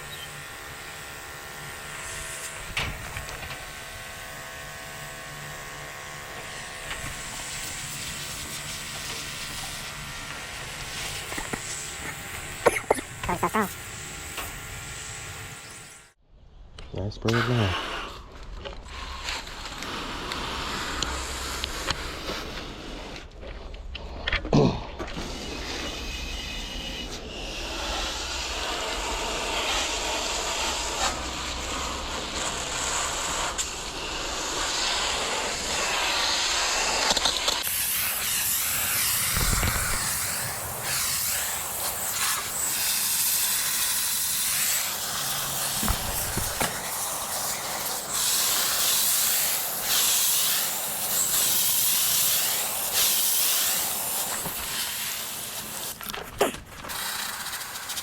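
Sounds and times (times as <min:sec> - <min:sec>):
hose water spraying: 0:00.9 - 0:16.0, 0:25.1 - 0:58.0.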